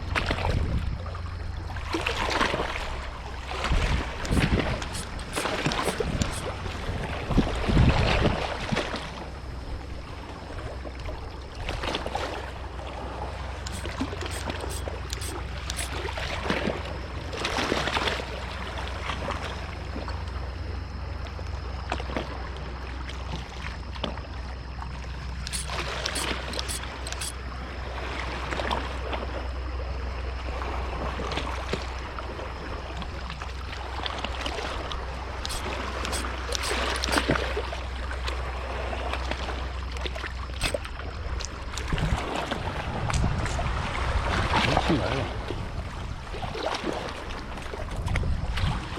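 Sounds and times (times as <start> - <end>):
steady low hum: 0.0 - 44.3
water sloshing and trickling: 0.0 - 48.9.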